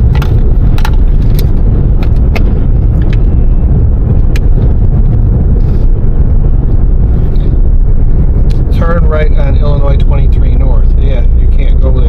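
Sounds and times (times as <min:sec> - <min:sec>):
car road noise rumble: 0:00.0 - 0:12.0.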